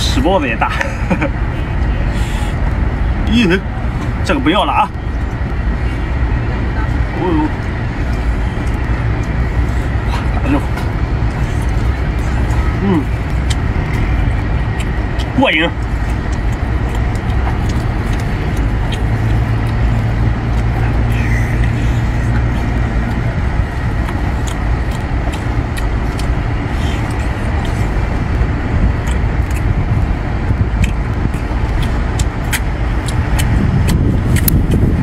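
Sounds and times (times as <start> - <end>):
low rumble: 0.0 - 35.0
person chewing: 7.0 - 35.0.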